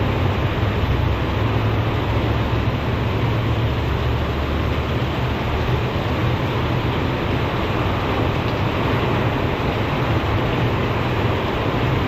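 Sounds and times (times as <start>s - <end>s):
heavy rain: 0.0s - 12.0s
high wind: 0.0s - 12.0s.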